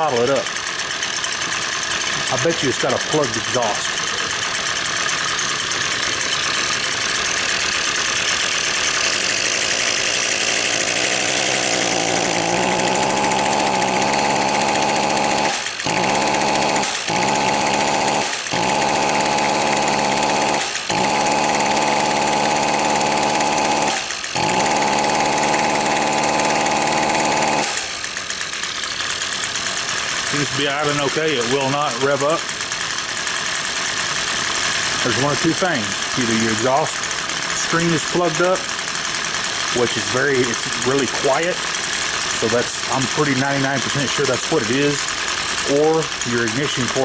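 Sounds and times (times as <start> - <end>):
small two-stroke engine idling: 0.0 - 47.0.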